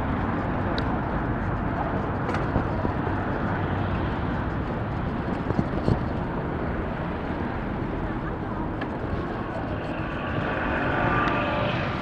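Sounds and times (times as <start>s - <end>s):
road noise: 0.0s - 12.0s
rumbling wind: 0.0s - 12.0s.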